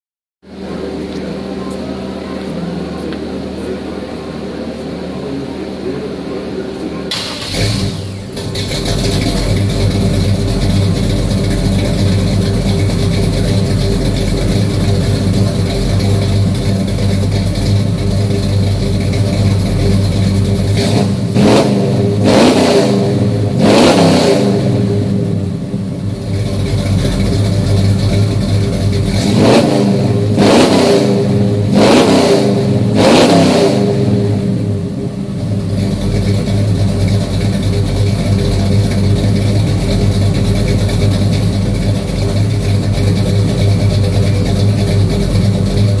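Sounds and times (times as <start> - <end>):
car engine idling and revving: 0.4 - 46.0.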